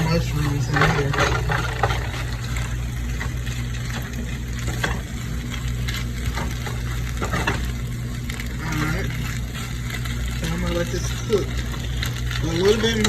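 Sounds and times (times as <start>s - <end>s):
food sizzling in a frying pan: 0.0s - 13.0s
steady low hum: 0.0s - 13.0s.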